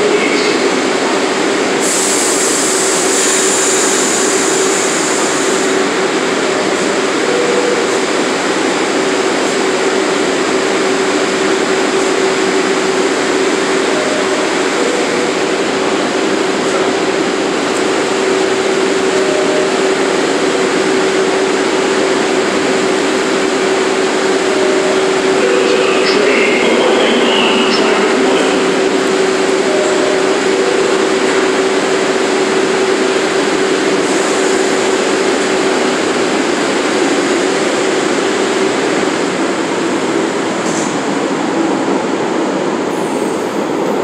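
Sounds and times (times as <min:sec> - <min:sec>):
train steady hum with tone: 0:00.0 - 0:44.0.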